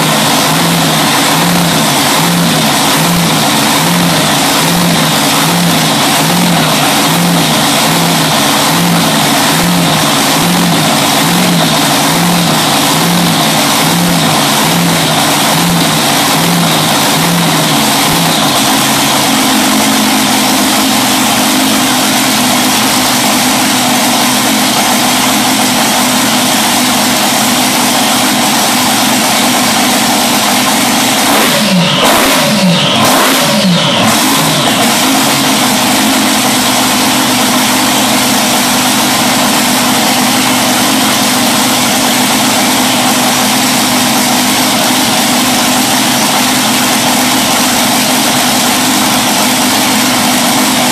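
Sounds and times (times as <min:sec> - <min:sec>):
boat engine idling and revving: 0:00.0 - 0:50.9.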